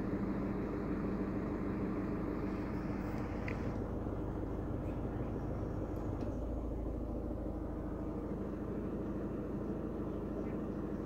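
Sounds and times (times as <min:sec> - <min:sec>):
car machinery humming: 0:00.0 - 0:11.0.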